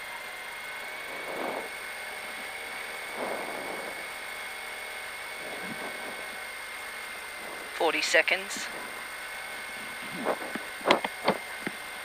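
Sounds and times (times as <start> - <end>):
car engine idling: 0.0 - 12.0
steady high whine: 0.0 - 12.0.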